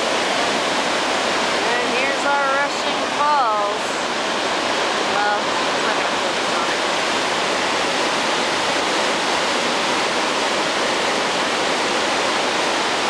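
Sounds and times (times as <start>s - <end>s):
whitewater rushing over rapids: 0.0s - 13.0s.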